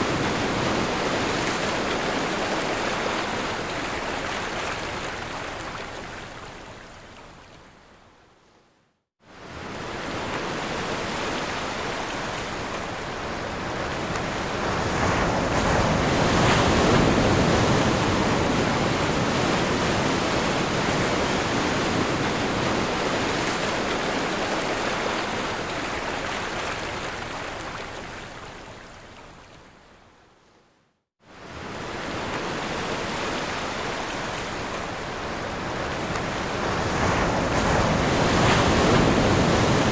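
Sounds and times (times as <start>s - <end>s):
ocean waves breaking: 0.0s - 6.7s, 9.4s - 28.4s, 31.3s - 39.9s.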